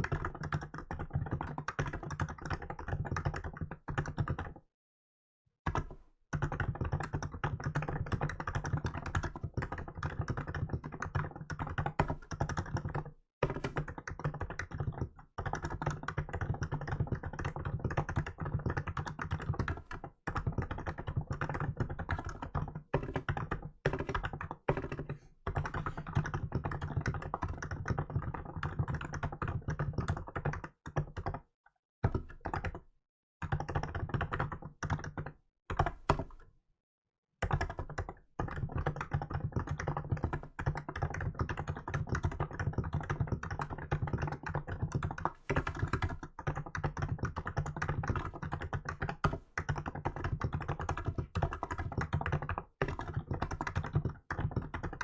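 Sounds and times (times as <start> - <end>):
keyboard typing: 0.0 - 4.6, 5.7 - 32.8, 33.4 - 36.5, 37.4 - 55.0.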